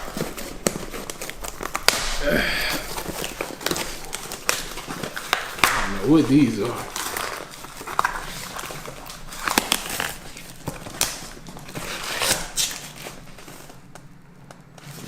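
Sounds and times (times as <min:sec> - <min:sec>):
packaging crinkling and snapping: 0:00.0 - 0:15.0.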